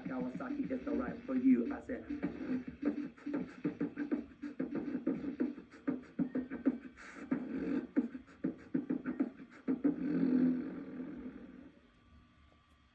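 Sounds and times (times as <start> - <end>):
vocal beatboxing: 0.0 - 11.4.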